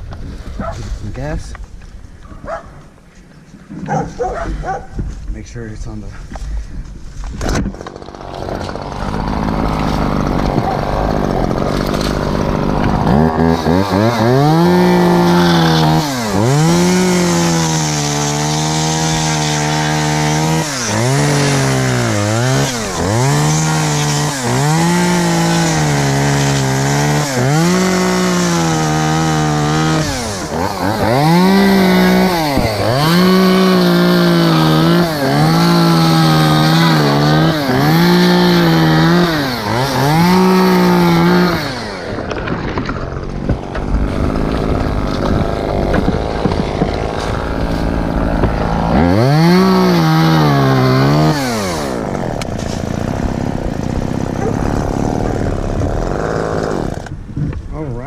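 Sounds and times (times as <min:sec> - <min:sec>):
chainsaw revving: 0:07.4 - 0:57.3.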